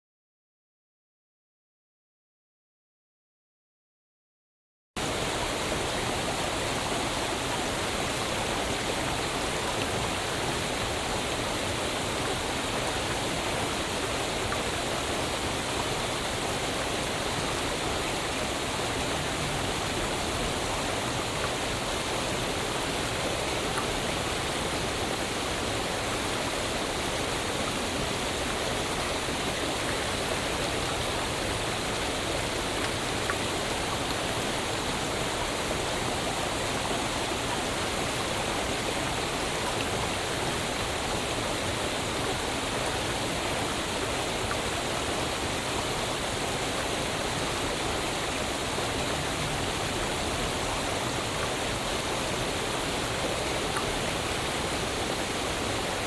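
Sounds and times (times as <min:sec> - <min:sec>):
waterfall rushing: 0:05.0 - 0:56.0.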